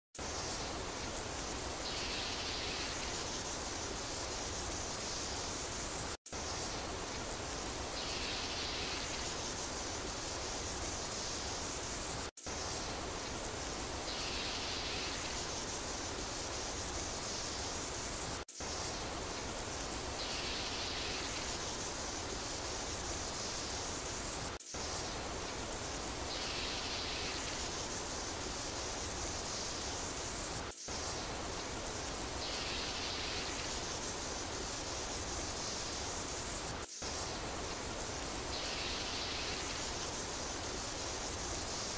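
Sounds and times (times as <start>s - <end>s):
steady rain hiss: 0.2s - 41.9s.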